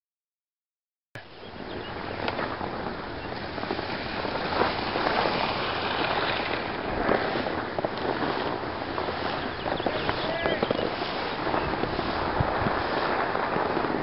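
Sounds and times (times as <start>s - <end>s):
skis scraping over snow: 1.3s - 14.0s.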